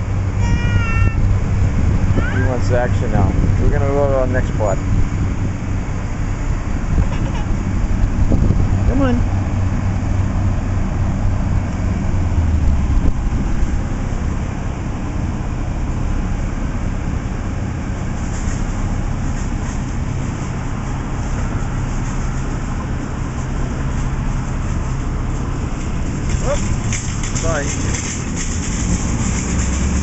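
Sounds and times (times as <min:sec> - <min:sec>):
heavy vehicle engine rumbling: 0:00.0 - 0:30.0
street traffic: 0:00.0 - 0:30.0.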